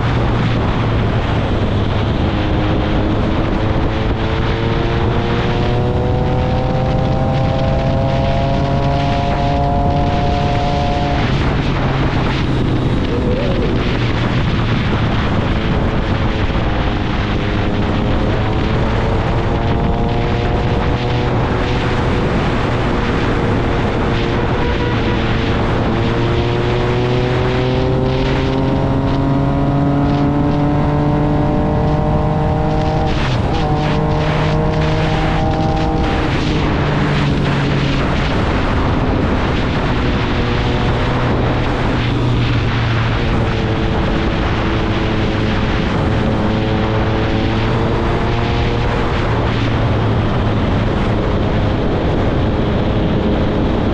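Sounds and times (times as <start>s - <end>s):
wind rush: 0.0s - 53.9s.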